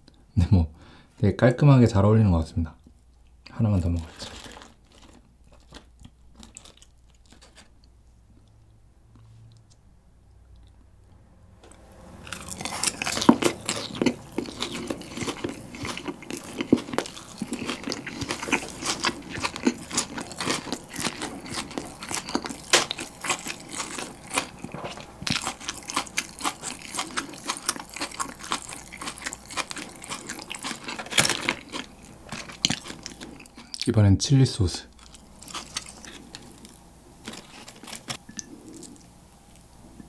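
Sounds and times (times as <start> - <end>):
crunchy chewing of fried chicken: 3.8 - 9.8, 12.2 - 33.9, 34.8 - 40.0.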